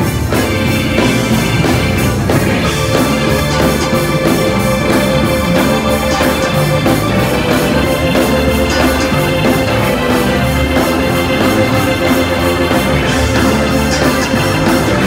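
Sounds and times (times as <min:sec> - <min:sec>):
drum and cymbal hits: 0:00.0 - 0:15.0
gospel band playing: 0:00.0 - 0:15.0
organ holding long note: 0:00.0 - 0:15.0.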